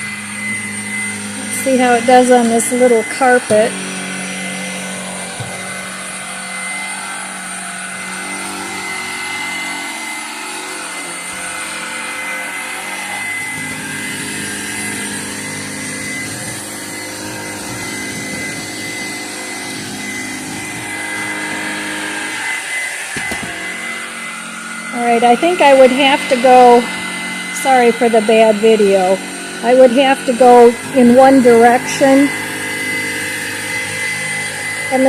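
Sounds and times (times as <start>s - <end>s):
stick vacuum motor drone: 0.0s - 35.0s.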